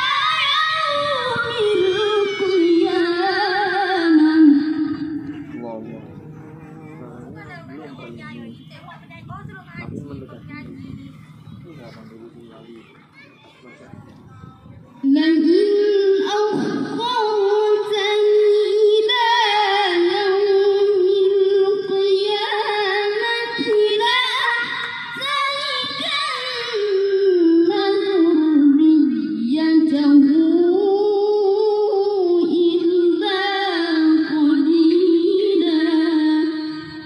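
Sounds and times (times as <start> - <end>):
boy reciting in melodic chant: 0.0 - 37.0.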